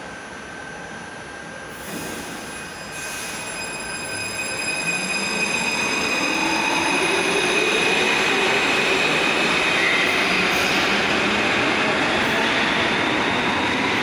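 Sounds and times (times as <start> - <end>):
metro train accelerating past: 0.0 - 14.0.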